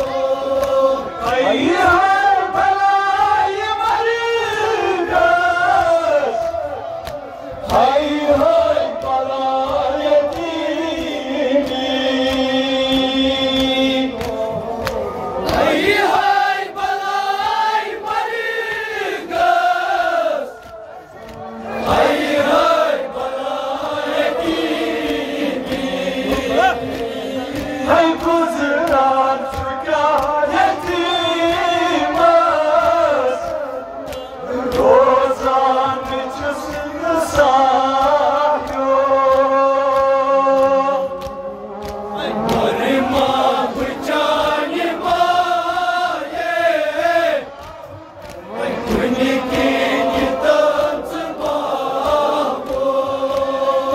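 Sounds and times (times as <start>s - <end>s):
men chanting a lament: 0.0s - 53.9s
reciters singing into microphones: 0.0s - 53.9s.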